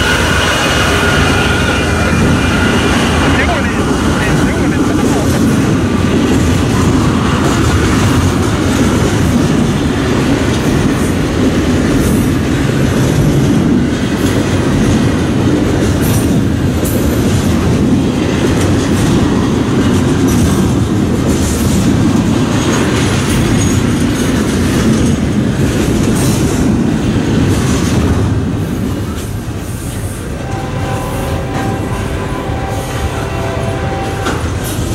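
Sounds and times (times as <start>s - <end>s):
freight train wheels rumbling: 0.0s - 34.9s
wheels clacking over rail joints: 0.0s - 34.9s.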